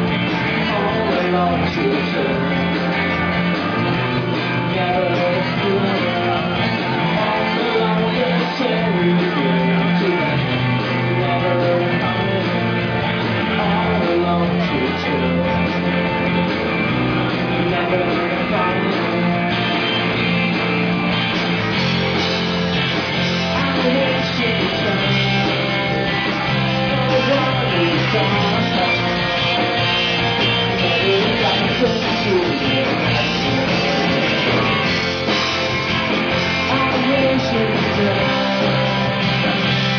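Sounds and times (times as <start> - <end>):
person singing: 0.0 - 3.3, 4.5 - 16.0, 17.4 - 20.0, 23.3 - 35.0, 36.3 - 39.9
live rock band playing: 0.0 - 39.9.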